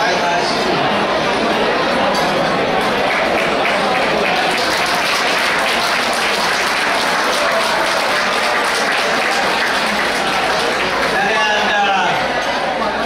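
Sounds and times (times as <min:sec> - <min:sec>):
crowd applauding: 0:01.6 - 0:13.0.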